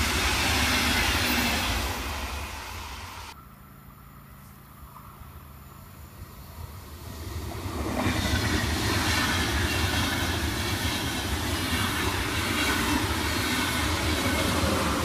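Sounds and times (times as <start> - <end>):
train wheels rushing on rails: 0.0 - 3.4, 6.1 - 15.0.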